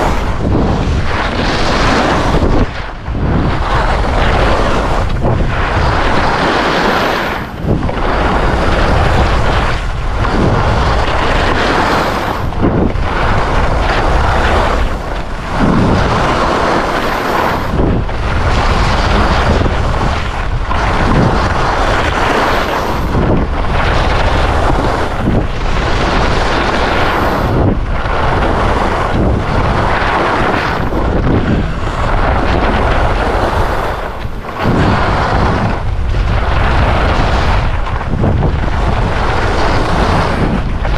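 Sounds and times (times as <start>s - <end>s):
skis scraping across snow: 0.0s - 40.9s
wind rushing over microphone: 0.0s - 40.9s.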